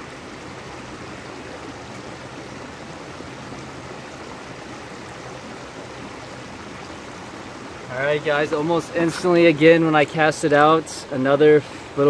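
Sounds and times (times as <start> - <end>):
water running over rocks: 0.0 - 12.0.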